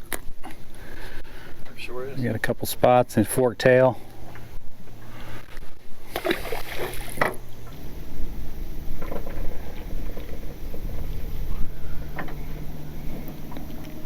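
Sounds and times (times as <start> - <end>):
boat engine low rumble: 0.0 - 14.0.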